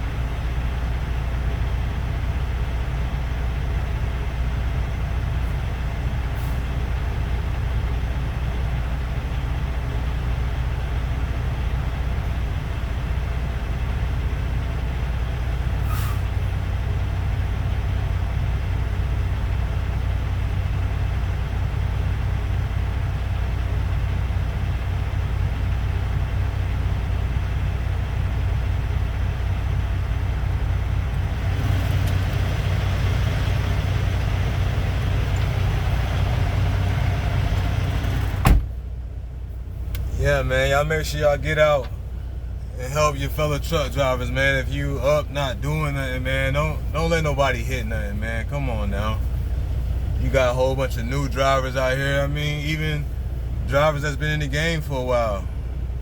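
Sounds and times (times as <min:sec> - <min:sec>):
truck diesel engine idling: 0:00.0 - 0:56.0.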